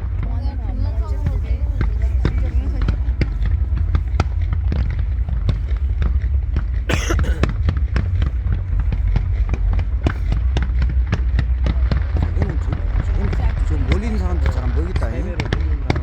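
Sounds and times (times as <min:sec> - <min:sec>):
fireworks crackling: 0:00.0 - 0:16.0
low rumble: 0:00.0 - 0:16.0
fireworks pops and bangs: 0:01.0 - 0:16.0.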